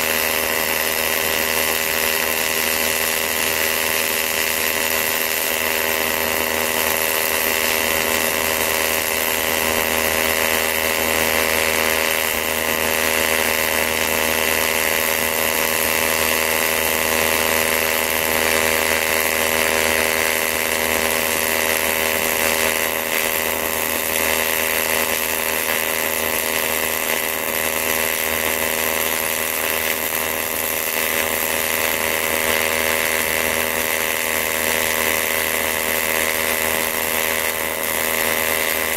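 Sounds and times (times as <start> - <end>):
welding arc buzzing hum: 0.0 - 38.9.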